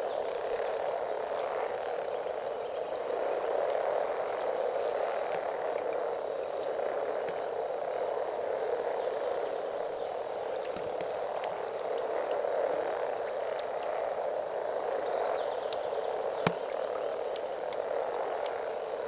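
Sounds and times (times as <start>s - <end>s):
chorus of frogs croaking: 0.0s - 19.0s.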